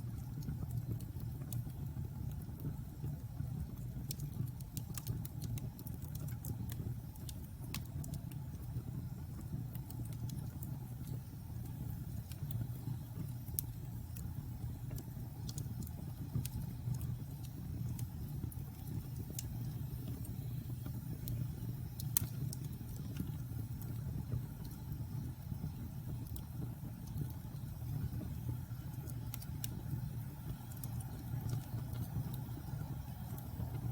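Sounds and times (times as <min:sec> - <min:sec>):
fire flames rumbling: 0:00.0 - 0:33.9
wood fire crackling and popping: 0:00.0 - 0:33.9.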